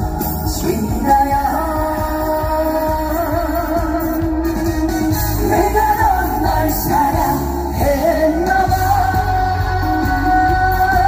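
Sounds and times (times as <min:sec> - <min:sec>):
backing track with steady beat: 0:00.0 - 0:11.0
man singing over loudspeakers: 0:00.0 - 0:11.0.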